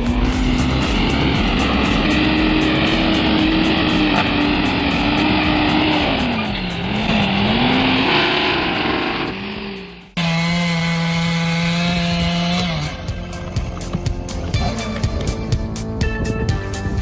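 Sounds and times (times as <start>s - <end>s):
steady drone: 0.0s - 15.8s
small engine running hard: 0.0s - 15.9s.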